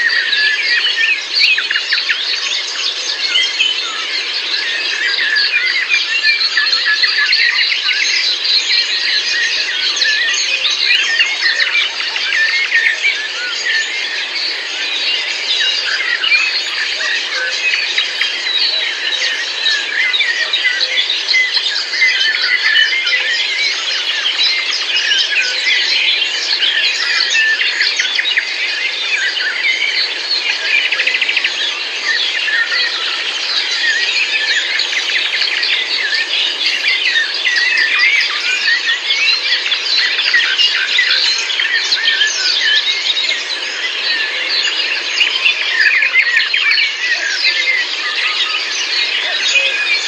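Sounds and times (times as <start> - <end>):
songbirds chorus: 0.0 - 50.0.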